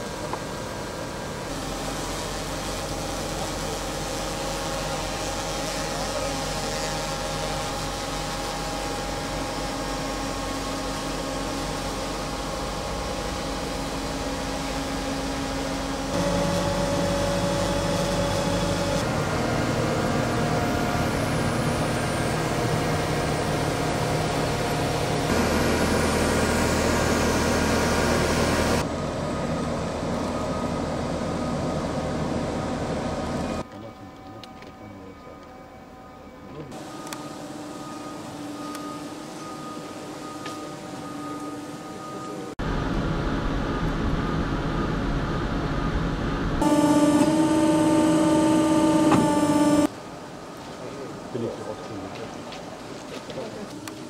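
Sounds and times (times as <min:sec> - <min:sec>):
crane diesel engine and hydraulics: 0:00.0 - 0:51.2.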